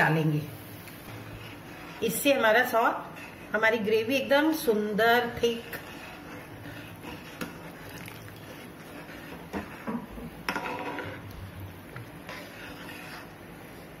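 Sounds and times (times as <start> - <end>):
spatula stirring gravy in metal pan: 0.0 - 14.0.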